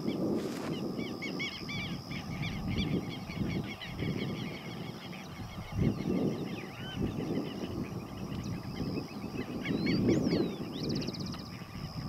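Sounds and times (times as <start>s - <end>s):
steady high whine: 0.0s - 12.0s
flock of birds calling: 0.6s - 12.0s.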